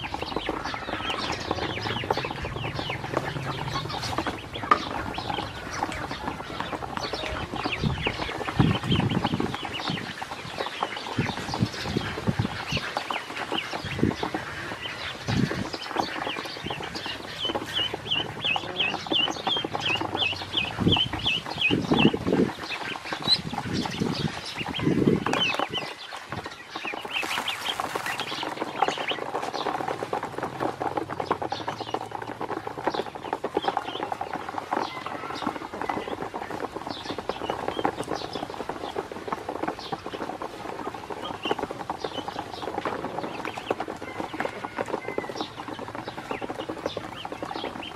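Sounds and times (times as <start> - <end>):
bills pecking plastic basin: 0.0 - 47.9
ducklings peeping: 0.0 - 47.9.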